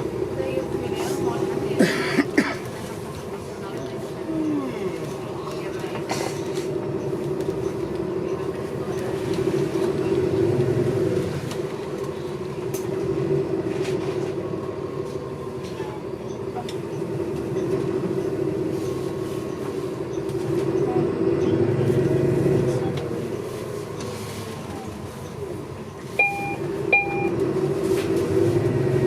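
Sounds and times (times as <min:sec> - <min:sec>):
bus engine drone: 0:00.0 - 0:29.0
road noise: 0:00.0 - 0:29.0.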